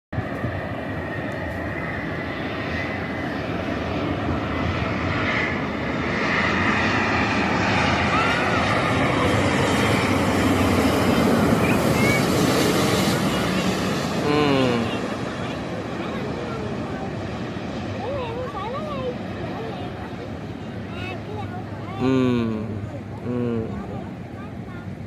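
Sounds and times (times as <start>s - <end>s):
jet engine rumble: 0.2s - 25.0s.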